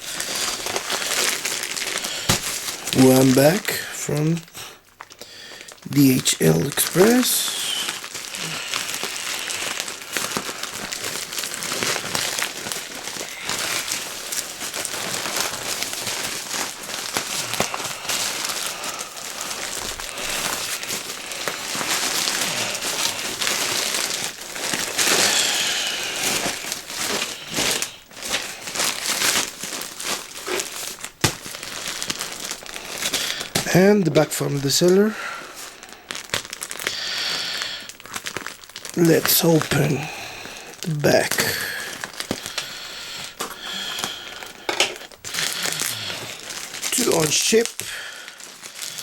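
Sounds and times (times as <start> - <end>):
plastic bag crinkling: 0.0 - 49.0.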